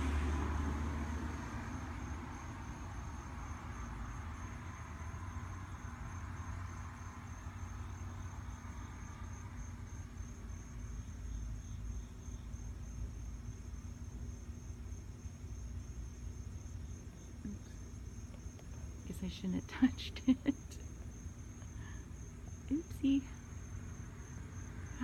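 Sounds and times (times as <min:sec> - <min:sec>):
insect chirping trill: 0:00.0 - 0:25.0.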